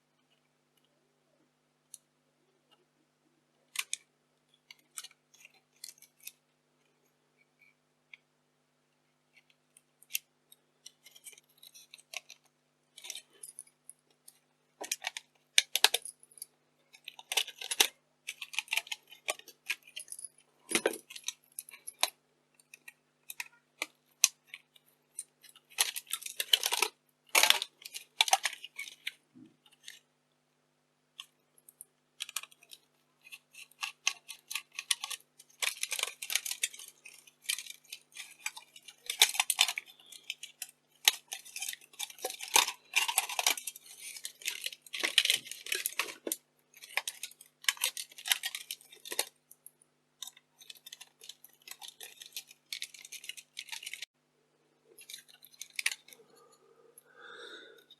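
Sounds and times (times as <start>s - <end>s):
small parts clicking and rattling: 3.7s - 8.3s, 9.3s - 30.1s, 31.1s - 54.1s, 54.9s - 57.9s.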